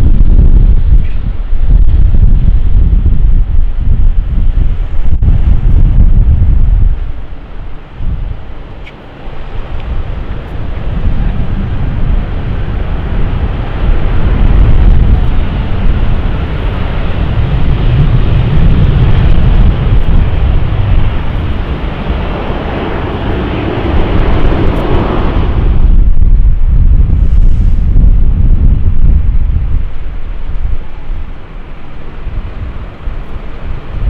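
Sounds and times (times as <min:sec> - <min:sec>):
jet engines running: 0:00.0 - 0:34.0
wind rumble on microphone: 0:00.0 - 0:34.0.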